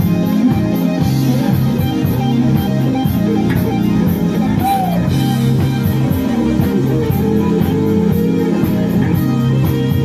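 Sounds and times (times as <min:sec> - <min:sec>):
drum kit cymbal beat: 0:00.0 - 0:10.0
electric bass guitar solo: 0:00.0 - 0:10.0.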